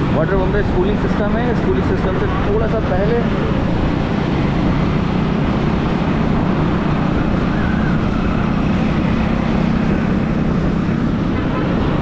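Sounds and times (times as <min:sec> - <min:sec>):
motorcycle engine cruising: 0:00.0 - 0:12.0
road and traffic noise: 0:00.0 - 0:12.0.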